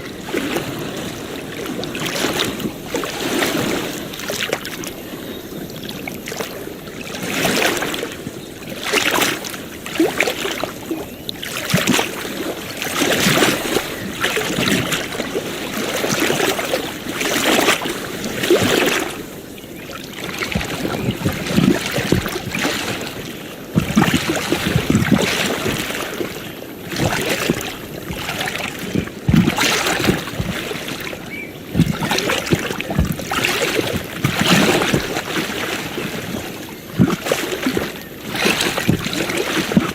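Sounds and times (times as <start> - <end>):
waves lapping and splashing: 0.0 - 39.9.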